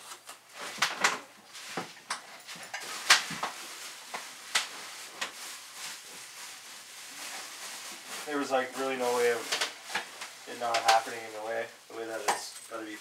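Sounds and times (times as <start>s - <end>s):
packing rustle: 0.6s - 13.0s.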